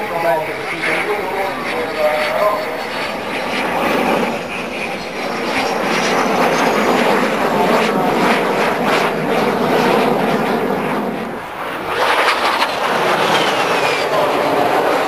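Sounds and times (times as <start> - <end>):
jet engine flying overhead: 0.0 - 15.0.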